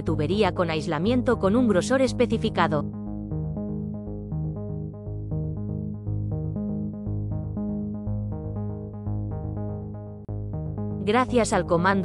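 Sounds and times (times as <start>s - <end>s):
electronic synthesizer music: 0.0s - 12.0s.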